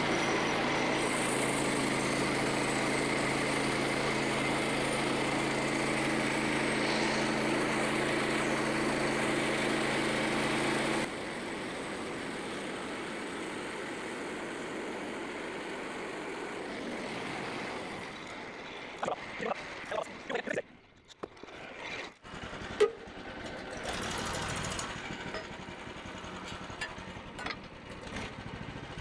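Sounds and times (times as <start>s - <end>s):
small gas engine running: 0.0s - 29.0s.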